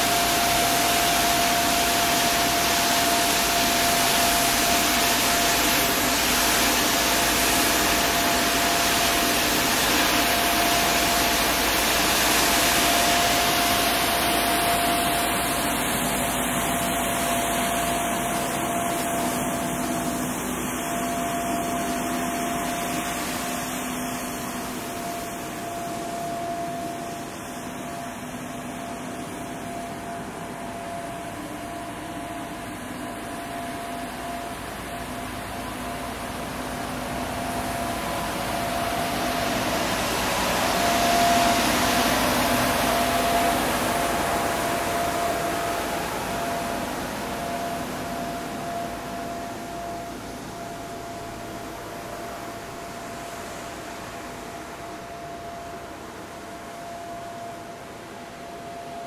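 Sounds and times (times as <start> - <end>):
street sweeper running: 0.0 - 59.0.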